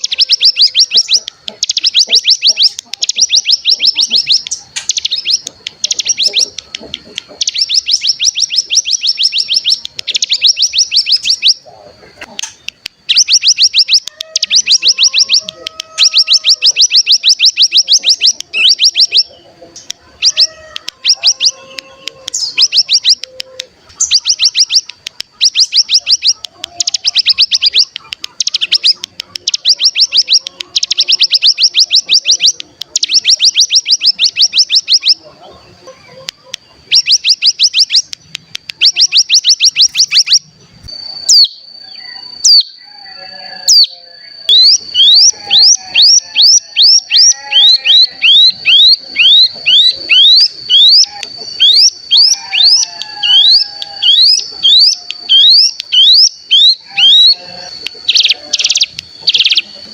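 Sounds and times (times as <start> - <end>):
faint lower bird calls: 0.0 - 59.9.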